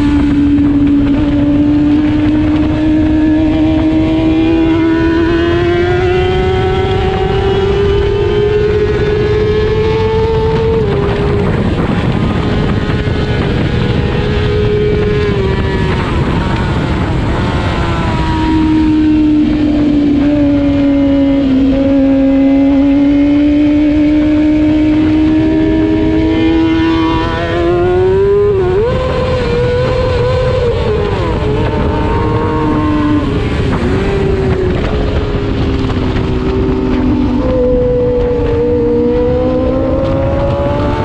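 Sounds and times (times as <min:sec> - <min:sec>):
motorcycle engine running hard: 0:00.0 - 0:41.0
rush of noise: 0:00.0 - 0:41.0.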